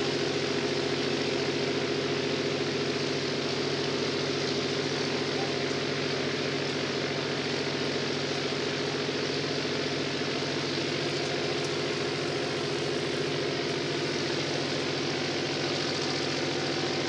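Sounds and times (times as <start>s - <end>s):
radial engine idling: 0.0s - 17.0s.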